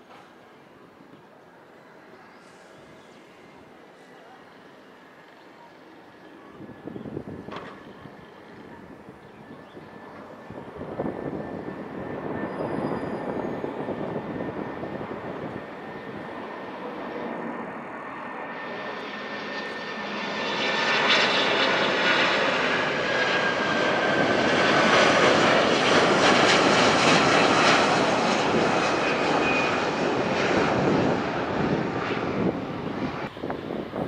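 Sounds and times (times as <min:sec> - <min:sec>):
jet airliner passing: 0:00.0 - 0:34.0
jet engine whine sliding down: 0:06.5 - 0:34.0.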